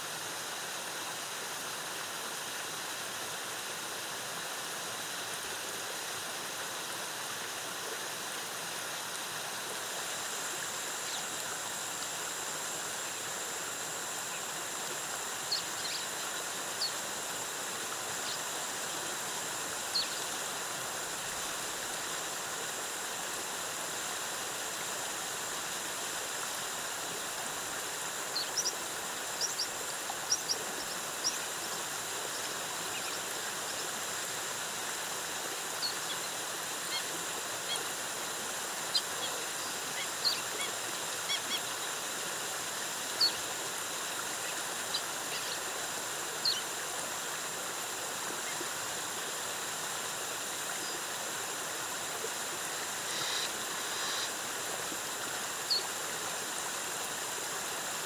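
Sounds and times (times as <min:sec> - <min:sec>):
waterfall cascading: 0:00.0 - 0:58.0.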